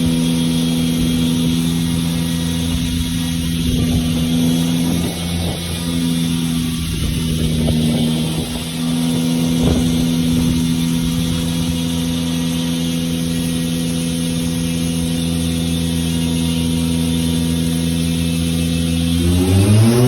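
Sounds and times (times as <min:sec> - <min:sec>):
car engine running on dyno: 0:00.0 - 0:20.0.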